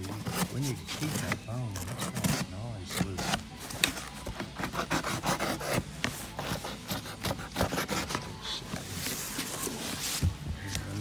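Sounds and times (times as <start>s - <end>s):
cardboard packaging scraping: 0.0s - 10.3s.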